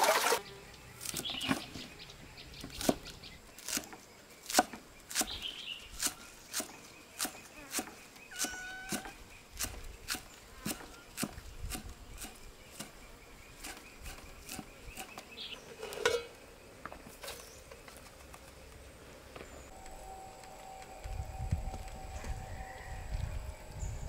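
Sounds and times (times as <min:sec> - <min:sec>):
faint insect drone: 0:00.0 - 0:24.0.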